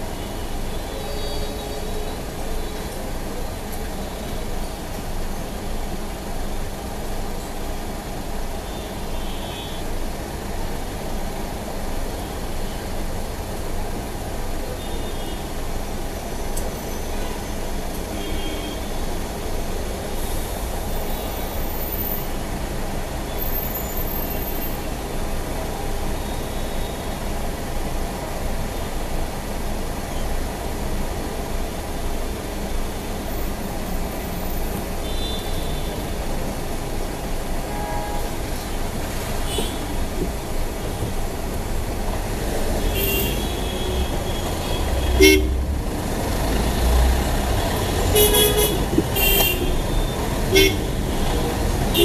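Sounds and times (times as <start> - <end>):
idling traffic rumble: 0.0 - 52.0.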